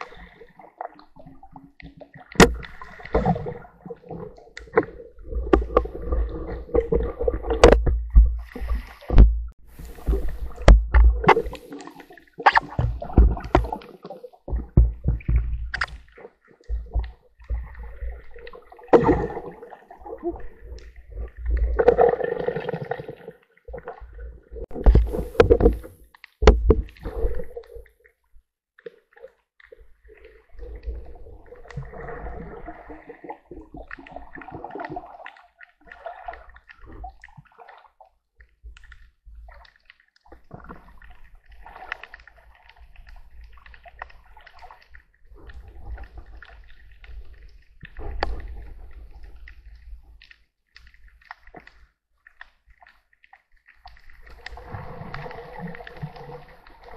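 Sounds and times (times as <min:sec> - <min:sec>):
underwater gurgling and sloshing: 0:00.0 - 0:56.9.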